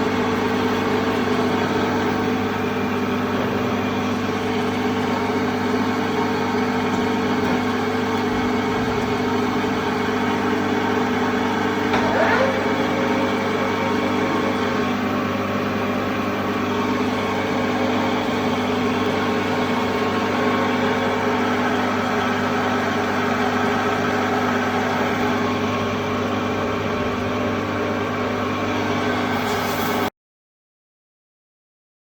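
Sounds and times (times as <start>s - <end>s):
milling machine humming and whining: 0.0s - 30.1s.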